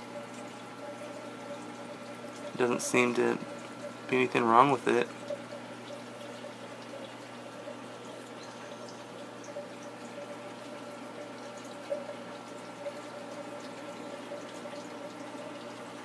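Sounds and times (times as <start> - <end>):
aquarium water trickling: 0.0 - 16.0
steady pump hum: 0.0 - 16.0.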